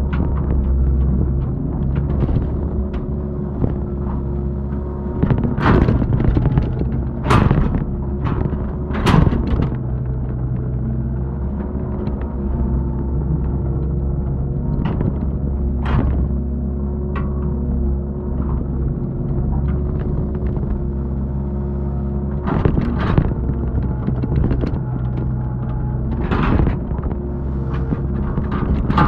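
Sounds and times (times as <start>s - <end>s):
excavator diesel engine: 0.0s - 29.0s.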